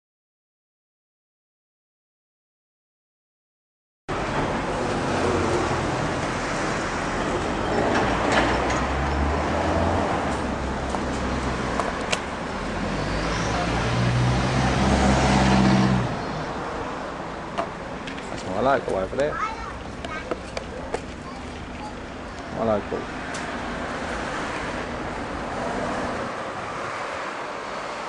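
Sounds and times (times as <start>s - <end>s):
cars passing: 4.1s - 28.0s.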